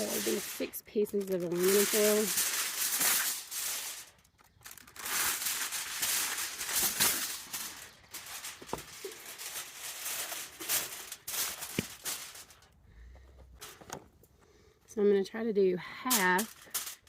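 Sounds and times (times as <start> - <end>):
aluminum foil crinkling: 0.0 - 12.8, 13.4 - 14.3, 16.1 - 17.0.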